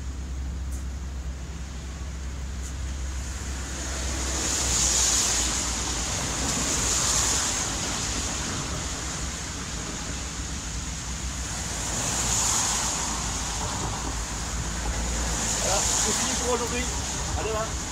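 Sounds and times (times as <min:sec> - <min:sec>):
tyres hissing on wet road: 0:00.0 - 0:17.9.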